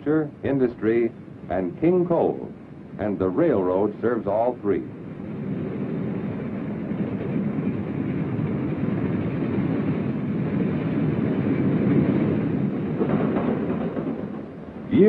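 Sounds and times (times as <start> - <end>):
freight train on rails: 0.0 - 15.0.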